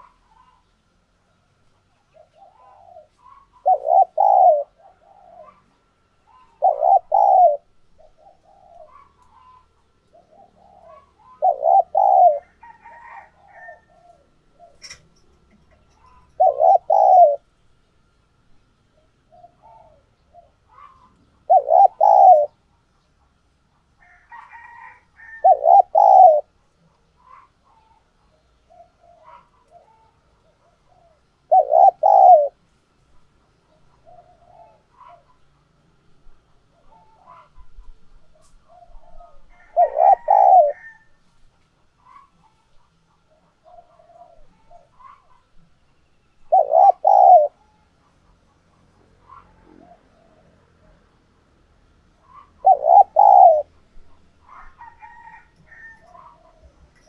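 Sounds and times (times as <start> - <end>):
dove cooing: 1.4 - 17.5, 19.0 - 22.7, 24.0 - 26.6, 27.2 - 32.6, 33.7 - 41.2, 42.0 - 45.6, 46.4 - 51.1, 52.2 - 57.0.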